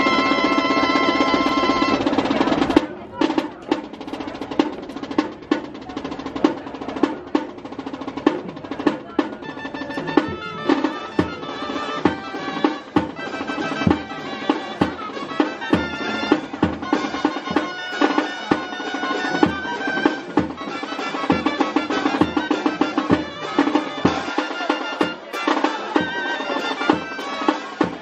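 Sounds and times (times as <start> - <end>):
shawm melody: 0.0 - 28.0
snare drum rolls: 0.0 - 28.0.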